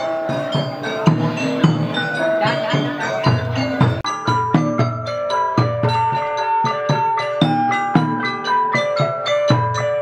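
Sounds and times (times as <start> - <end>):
xylophone-like mallet percussion music: 0.0 - 10.0.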